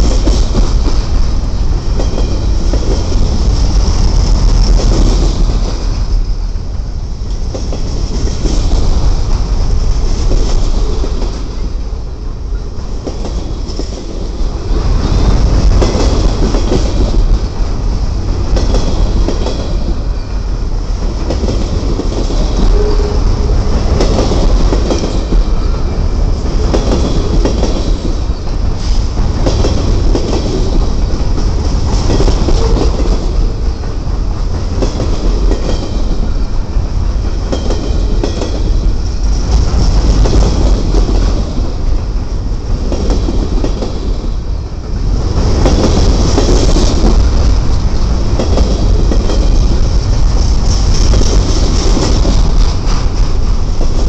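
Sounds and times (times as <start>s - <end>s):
steel wheels rumbling on rail: 0.0s - 54.0s
wheels clacking over rail joints: 0.0s - 54.0s.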